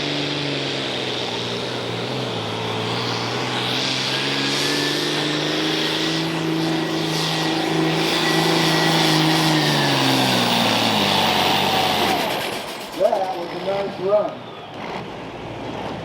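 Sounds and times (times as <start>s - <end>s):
diesel tractor engine at full throttle: 0.0s - 16.0s.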